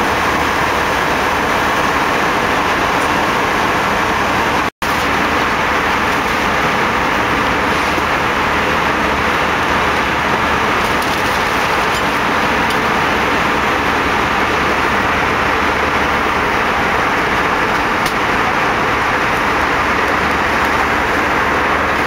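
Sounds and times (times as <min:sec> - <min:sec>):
airplane cabin engine and airflow noise: 0:00.0 - 0:22.0.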